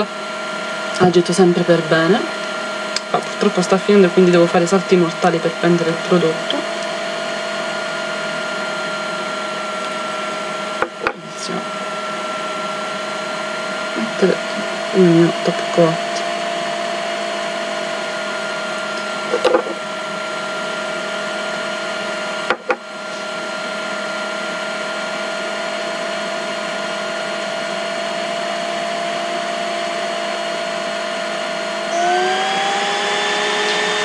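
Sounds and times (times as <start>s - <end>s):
small electric motor whine: 0.0s - 34.0s.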